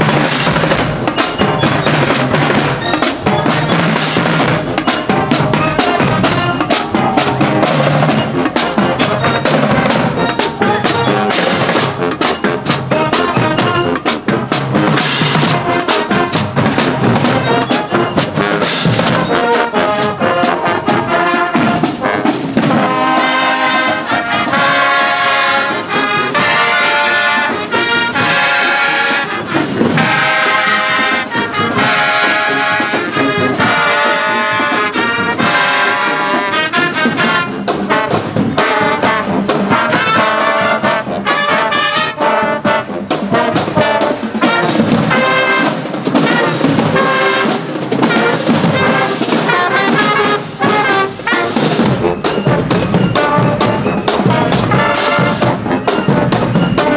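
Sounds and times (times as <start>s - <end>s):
marching band brass playing: 0.0s - 56.9s.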